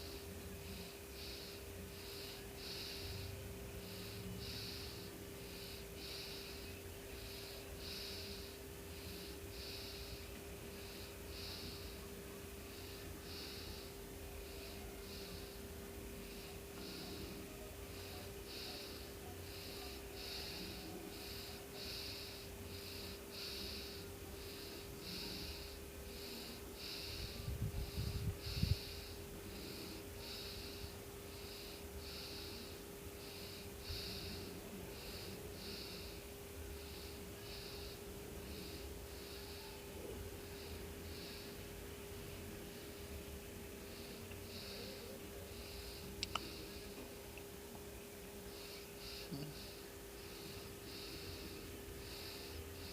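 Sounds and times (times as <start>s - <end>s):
cat purring: 0.0s - 41.8s, 48.2s - 52.9s
slow breathing: 0.0s - 52.9s
steady hum: 0.0s - 52.9s.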